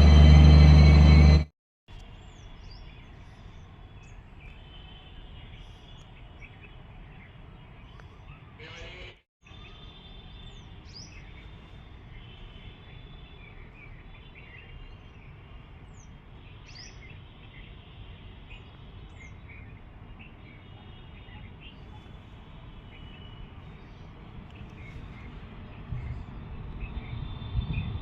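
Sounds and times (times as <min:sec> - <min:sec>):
birds chirping: 0:02.1 - 0:27.9.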